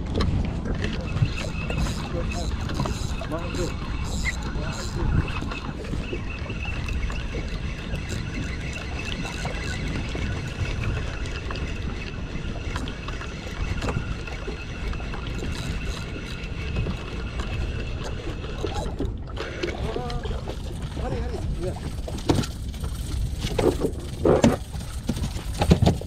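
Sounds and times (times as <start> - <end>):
motorboat engine running: 0.0 - 26.0
water noise: 0.0 - 26.0.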